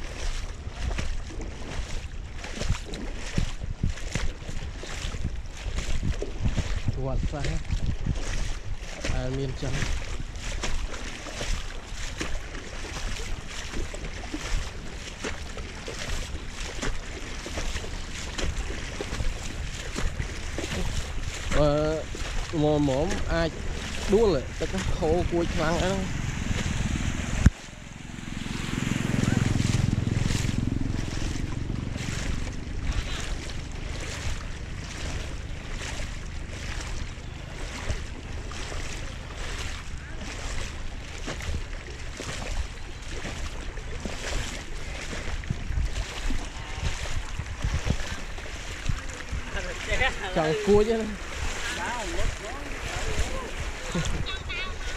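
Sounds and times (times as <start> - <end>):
floodwater rushing: 0.0 - 54.9
small water splashes: 0.0 - 54.9
wading sloshes: 0.0 - 54.9
wind buffeting microphone: 0.0 - 54.9.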